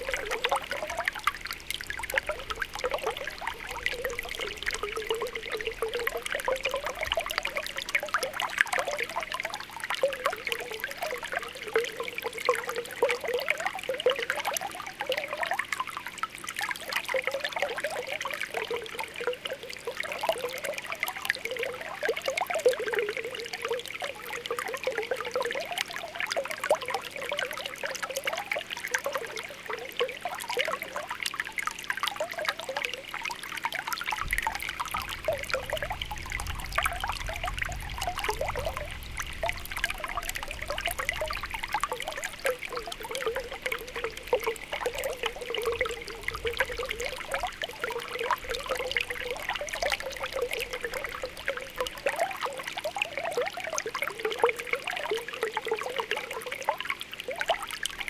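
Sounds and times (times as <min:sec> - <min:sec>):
spring water bubbling: 0:00.0 - 0:58.0
water trickling: 0:00.0 - 0:58.0.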